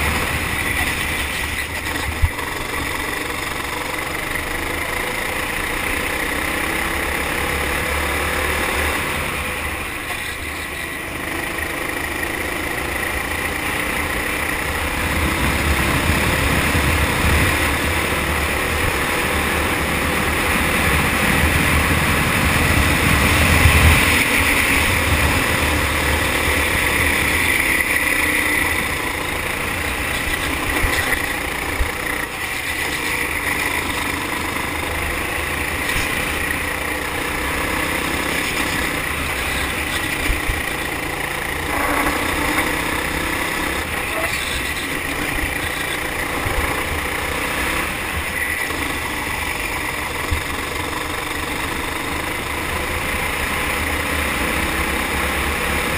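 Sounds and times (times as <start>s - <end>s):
kart engine racing: 0.0s - 55.9s
road noise: 0.0s - 55.9s.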